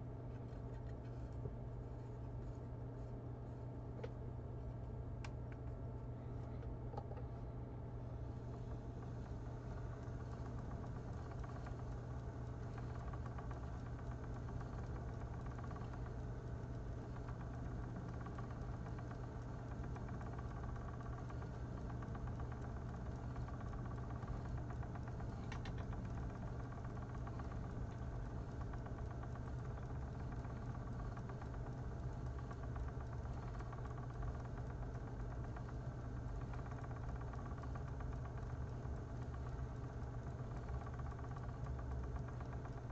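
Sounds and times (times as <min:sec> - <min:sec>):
electric spinning wheel humming: 0:00.0 - 0:42.9.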